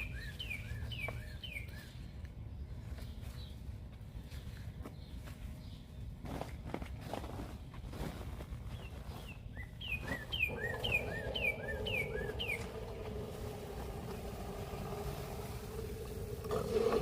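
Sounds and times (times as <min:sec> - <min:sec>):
songbird chirping: 0:00.0 - 0:17.0
steady mechanical hum: 0:00.0 - 0:17.0.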